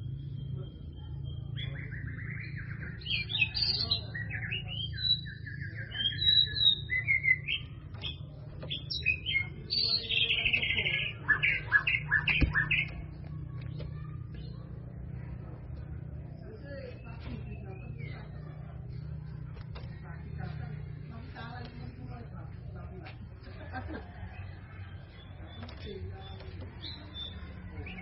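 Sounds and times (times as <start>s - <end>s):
bird singing: 0.0s - 28.0s
low steady hum: 0.0s - 28.0s.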